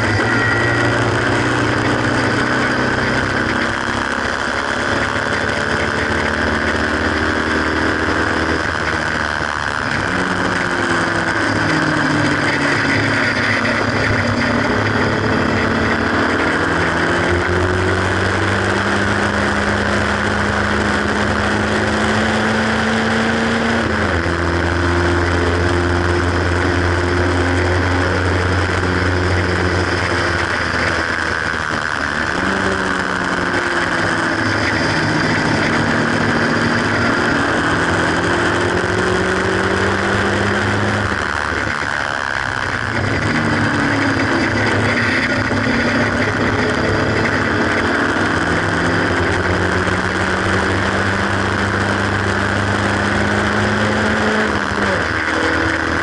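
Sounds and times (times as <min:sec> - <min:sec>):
car engine revving hard: 0:00.0 - 0:56.0.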